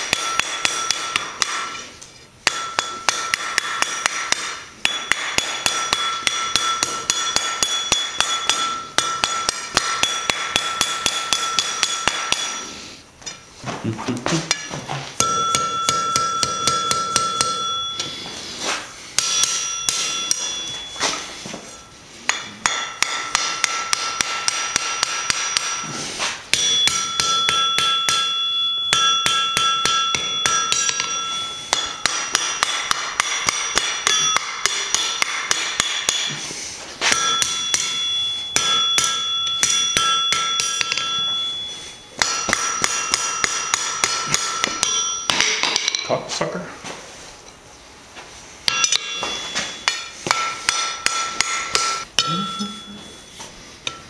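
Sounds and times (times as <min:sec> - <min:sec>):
hammer striking hot steel on anvil: 0:00.0 - 0:12.8, 0:15.2 - 0:46.1, 0:48.6 - 0:54.0
anvil ringing: 0:00.0 - 0:13.0, 0:15.2 - 0:36.4, 0:37.0 - 0:46.1, 0:48.6 - 0:54.0.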